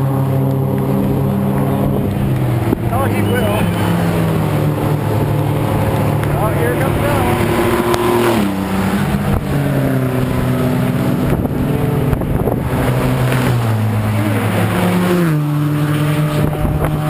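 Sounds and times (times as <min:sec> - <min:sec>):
car passing close by: 0:00.0 - 0:17.0
race car engines at speed: 0:00.0 - 0:17.0.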